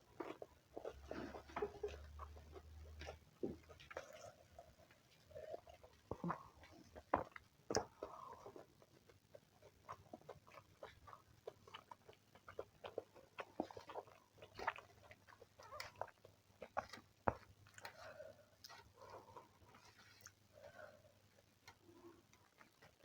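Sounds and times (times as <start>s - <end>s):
chewing mouth sounds: 0.2s - 20.4s.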